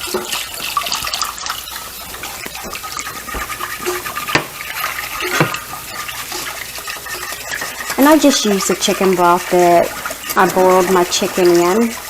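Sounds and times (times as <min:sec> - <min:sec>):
liquid stirred in a skillet: 0:00.0 - 0:12.0
utensil clicking against pan: 0:02.3 - 0:12.0.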